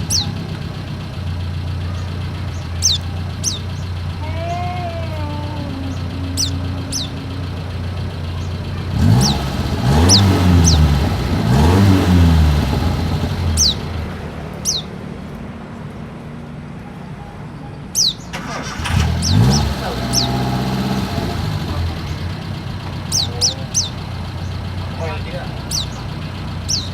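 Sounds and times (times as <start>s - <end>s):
vehicle engine revving: 0.0s - 15.2s, 18.3s - 26.9s
steady engine hum: 0.0s - 26.9s.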